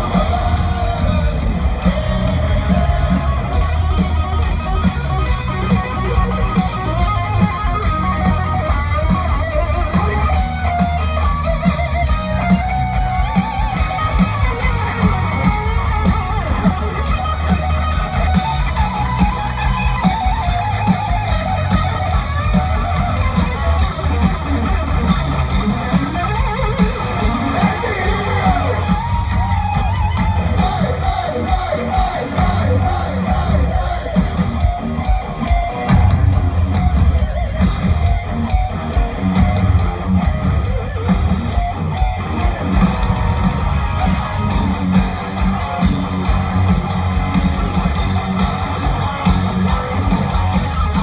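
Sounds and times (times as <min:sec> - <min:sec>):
distorted electric guitar lead: 0:00.0 - 0:51.0
live rock band playing: 0:00.0 - 0:51.0.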